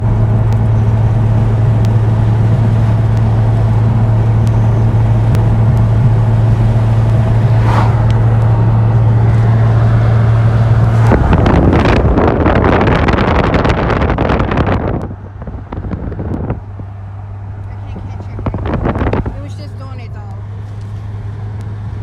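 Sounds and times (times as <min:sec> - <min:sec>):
faint tire tick: 0:00.0 - 0:21.8
engine and road drone: 0:00.0 - 0:22.0.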